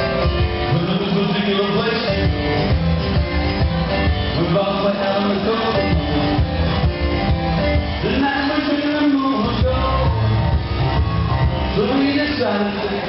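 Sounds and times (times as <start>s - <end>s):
bass line: 0.0s - 13.0s
country music with plucked guitar: 0.0s - 13.0s.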